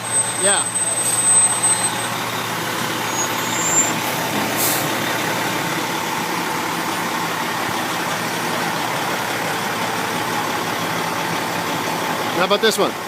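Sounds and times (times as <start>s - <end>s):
fire truck engine running: 0.0s - 13.0s.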